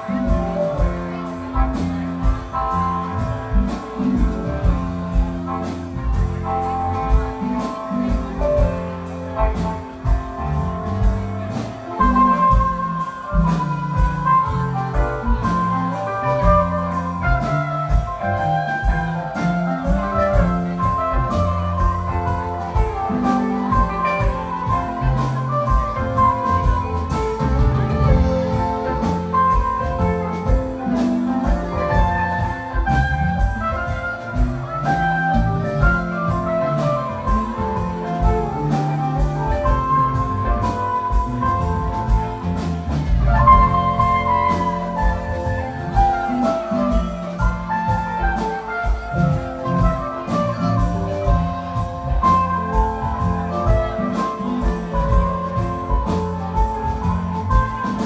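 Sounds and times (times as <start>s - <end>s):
electric guitar lead line: 0.0s - 58.0s
rock band playing: 0.0s - 58.0s.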